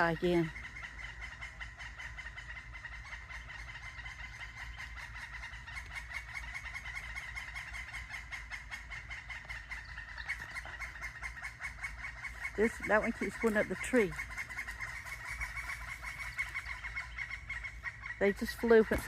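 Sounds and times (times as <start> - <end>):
woodpeckers chattering calls: 0.0 - 19.0.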